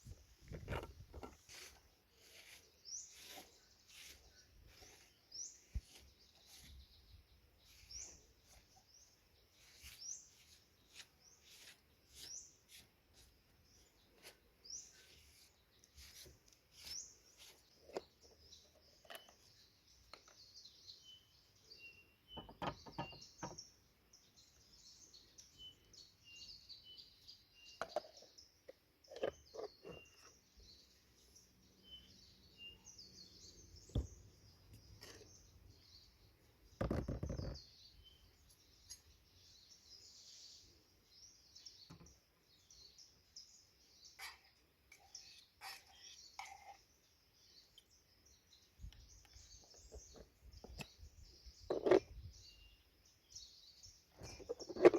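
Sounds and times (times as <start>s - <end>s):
birds chirping and twittering: 0.0s - 54.9s.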